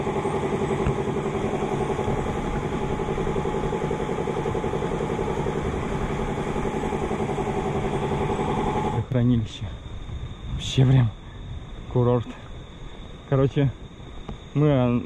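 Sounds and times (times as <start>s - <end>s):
machinery droning hum: 0.0s - 15.0s.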